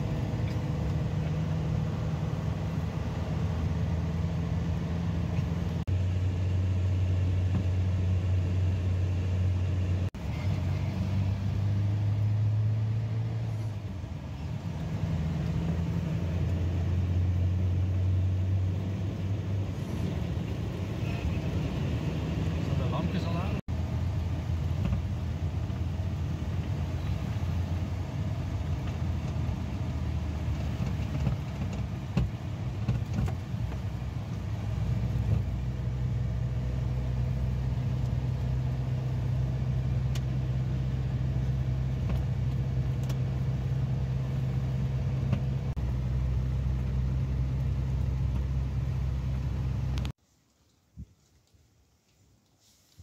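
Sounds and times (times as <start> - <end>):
car engine drone in cabin: 0.0 - 50.2.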